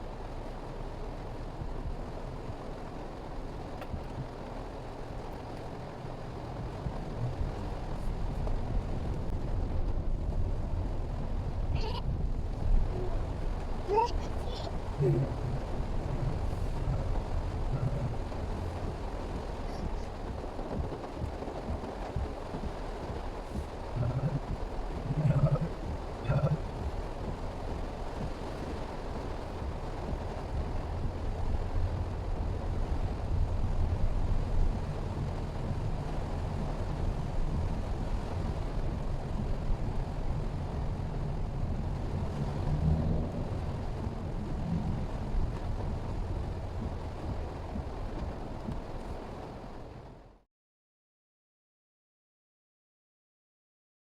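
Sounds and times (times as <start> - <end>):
car engine rumble: 0.0 - 50.4
road noise: 0.0 - 50.4.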